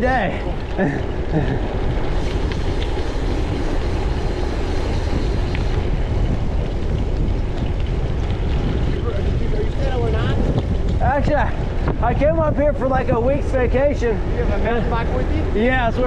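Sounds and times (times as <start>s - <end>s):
tyres rolling over gravel: 0.0s - 16.0s
wind rushing over microphone: 0.0s - 16.0s.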